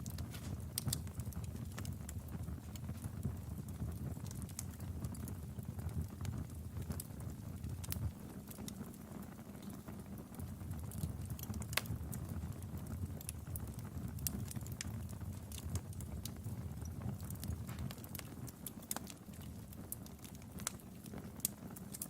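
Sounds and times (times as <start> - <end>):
sharp fire pops: 0.0 - 7.1, 10.8 - 22.0
low fire rumble: 0.0 - 22.0
wood fire crackling: 0.0 - 22.0.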